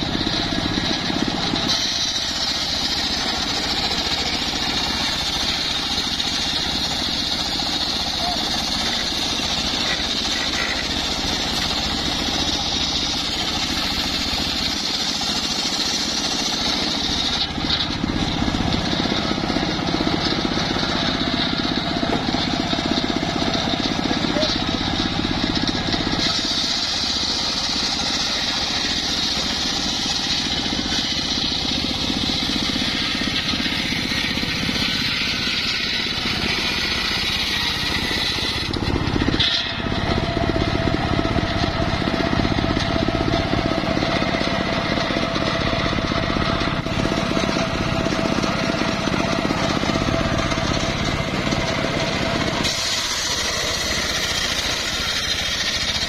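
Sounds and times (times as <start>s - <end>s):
motor running: 0.0s - 56.0s
saw blade cutting wood: 0.0s - 56.0s.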